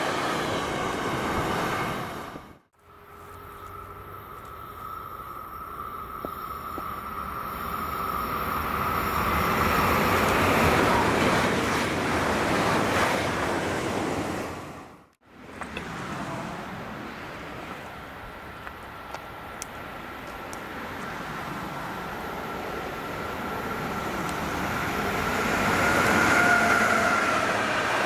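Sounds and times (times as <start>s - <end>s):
passing train rushing: 0.0s - 28.0s.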